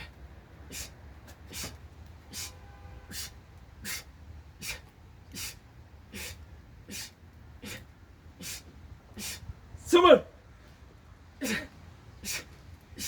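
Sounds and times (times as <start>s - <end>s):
man breathing hard through nose: 0.0s - 9.6s, 11.4s - 13.0s.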